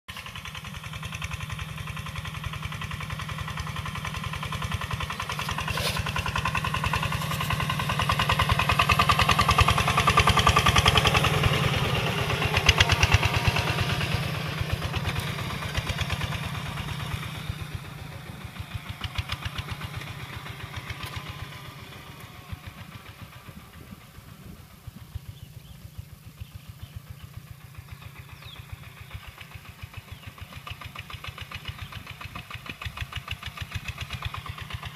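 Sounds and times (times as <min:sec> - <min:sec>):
tractor diesel engine chugging: 0:00.1 - 0:34.9.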